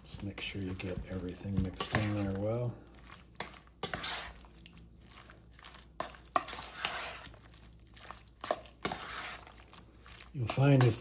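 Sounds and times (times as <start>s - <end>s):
wet swishing stirring strokes: 0.0s - 11.0s.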